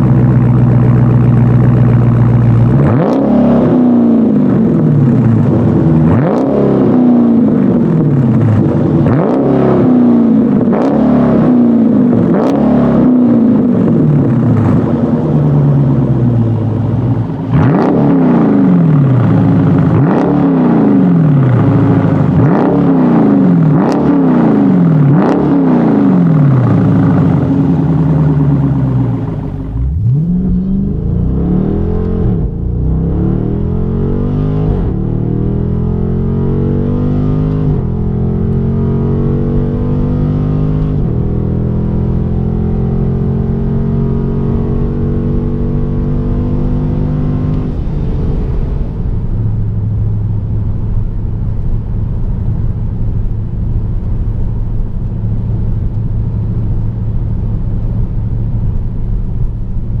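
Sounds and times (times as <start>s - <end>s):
car engine accelerating hard: 0.0s - 60.0s.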